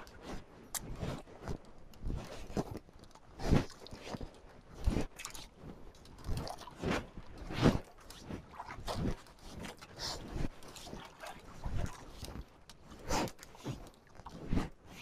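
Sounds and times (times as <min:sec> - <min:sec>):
fishing gear knocking and scraping: 0:00.8 - 0:14.8.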